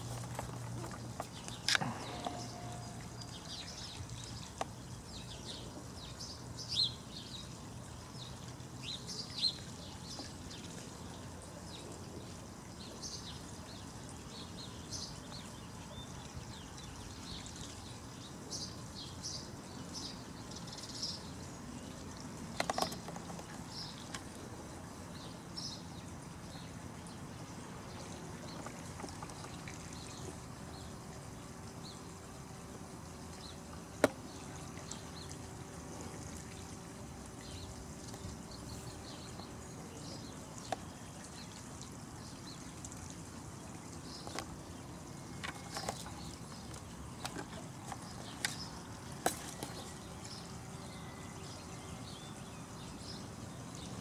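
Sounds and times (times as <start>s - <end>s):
small birds chirping: 0.0s - 54.0s
steady outdoor hiss: 0.0s - 54.0s.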